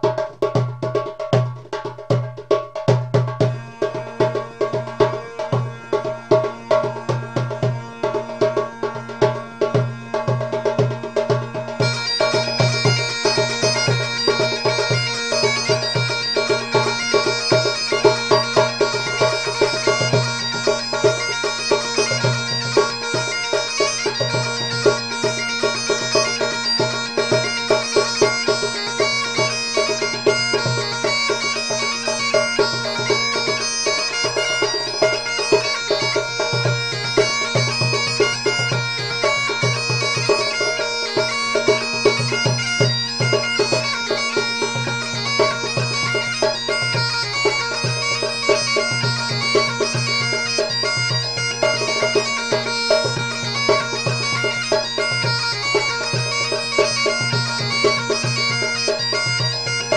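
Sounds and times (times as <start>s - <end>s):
bagpipe music: 3.3s - 59.9s.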